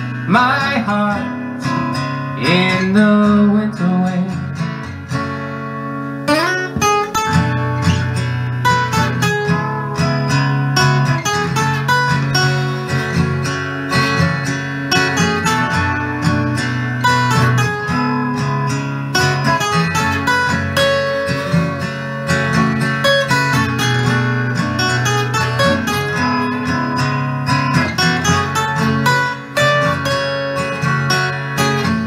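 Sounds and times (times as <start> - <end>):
acoustic guitar playing: 0.0 - 32.0.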